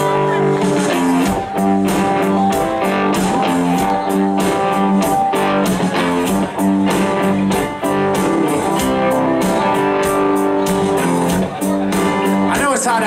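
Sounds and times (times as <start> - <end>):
electric guitars strumming: 0.0 - 13.0
steady drum beat: 0.0 - 13.0.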